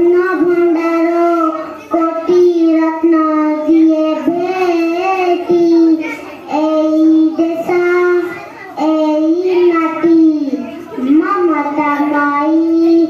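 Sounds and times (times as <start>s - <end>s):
girl singing unaccompanied: 0.0s - 13.0s.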